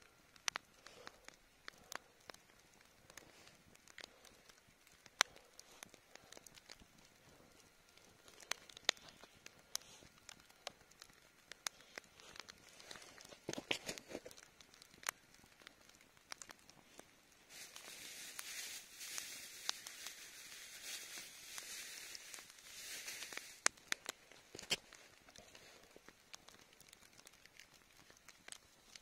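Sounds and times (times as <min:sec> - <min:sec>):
campfire embers crackling: 0:00.0 - 0:29.0
steady hiss: 0:00.0 - 0:29.0.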